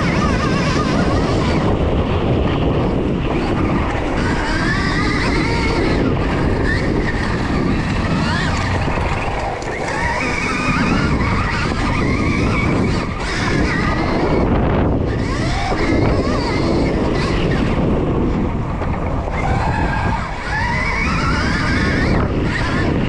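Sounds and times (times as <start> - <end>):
electric motorbike motor whine: 0.0 - 23.0
tyre and wind noise: 0.0 - 23.0.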